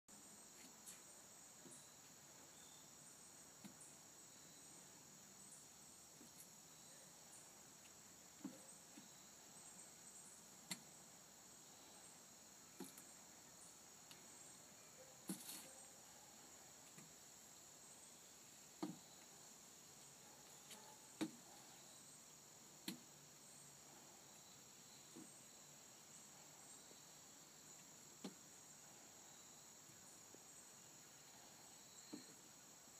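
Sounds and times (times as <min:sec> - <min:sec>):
crickets chirring: 0:00.2 - 0:32.9.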